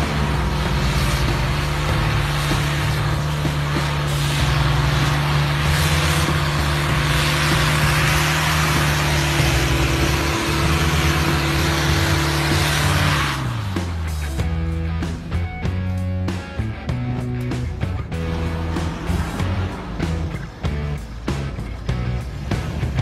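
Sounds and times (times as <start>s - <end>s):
pickup engine at high revs: 0.0s - 15.4s, 16.6s - 23.0s
tyres churning through snow: 0.0s - 23.0s.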